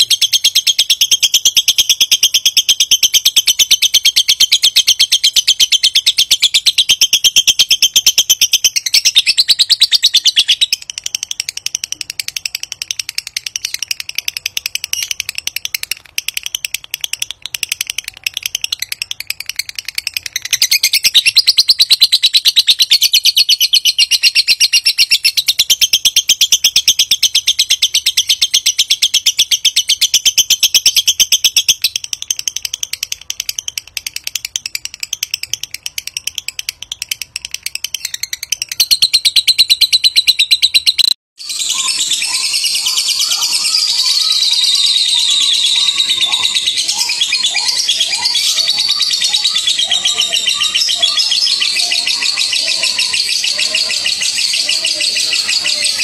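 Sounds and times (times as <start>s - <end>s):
lovebird chattering trill: 0.0s - 56.0s.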